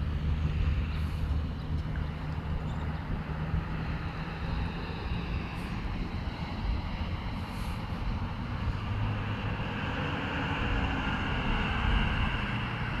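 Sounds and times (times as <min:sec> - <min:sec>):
cars and trucks driving past: 0:00.0 - 0:13.0.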